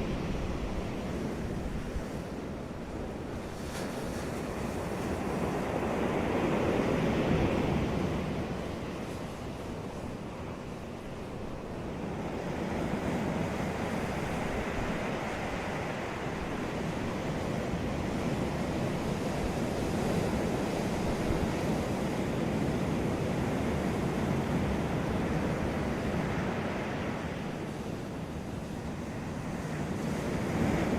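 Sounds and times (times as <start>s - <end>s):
ocean waves breaking on beach: 0.0s - 30.9s.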